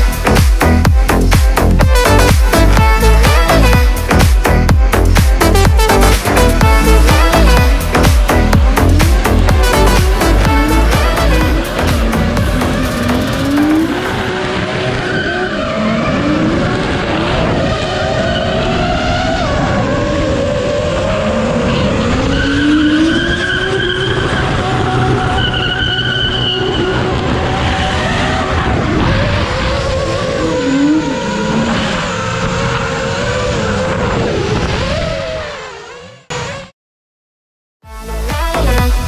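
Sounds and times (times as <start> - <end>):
car engines revving: 0.0 - 36.7.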